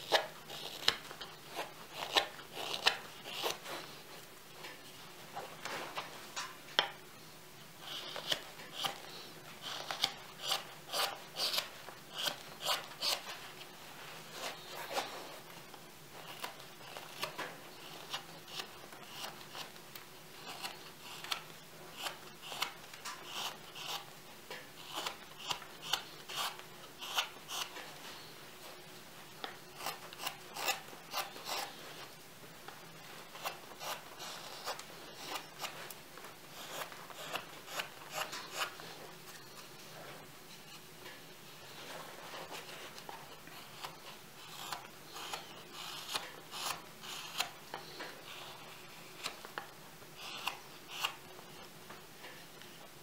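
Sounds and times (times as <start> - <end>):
knife shaving wood: 0.0 - 4.1, 7.8 - 24.1, 24.8 - 28.3, 29.4 - 32.1, 32.9 - 39.8, 41.6 - 51.8.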